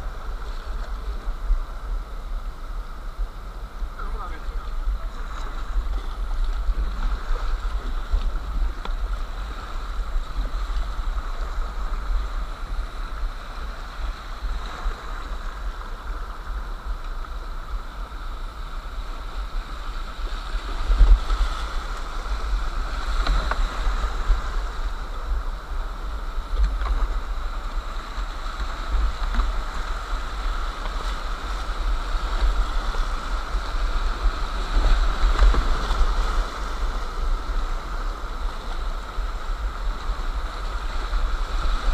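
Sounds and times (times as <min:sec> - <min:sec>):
rushing whitewater: 0:00.0 - 0:41.9.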